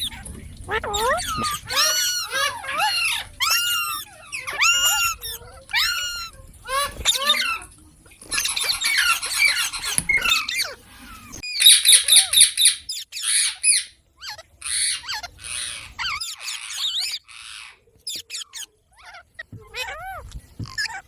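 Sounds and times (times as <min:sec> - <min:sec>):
parrots squawking and chattering: 0:00.0 - 0:21.0.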